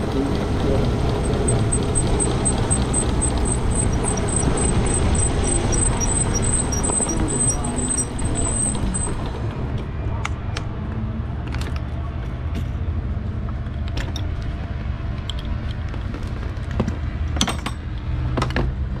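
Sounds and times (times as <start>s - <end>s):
low rumble: 0.0s - 15.2s.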